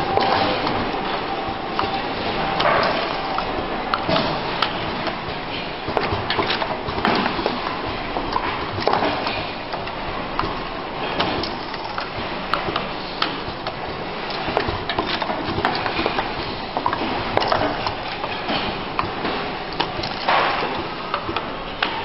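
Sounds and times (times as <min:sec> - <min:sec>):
machine clicks and knocks: 0:00.0 - 0:22.0
steady machine noise: 0:00.0 - 0:22.0.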